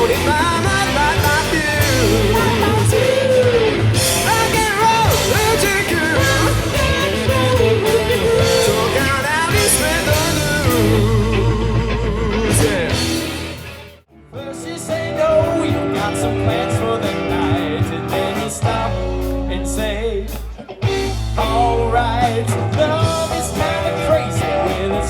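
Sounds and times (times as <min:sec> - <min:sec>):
lead guitar line with bends: 0:00.0 - 0:25.0
rock band playing: 0:00.0 - 0:25.0.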